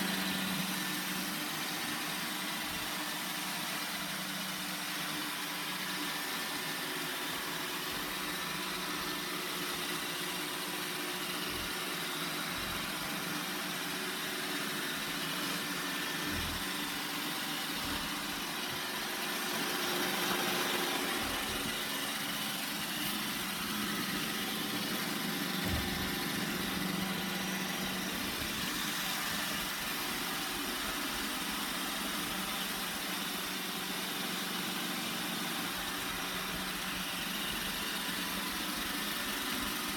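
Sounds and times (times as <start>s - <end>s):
robot vacuum whirring: 0.0s - 34.1s.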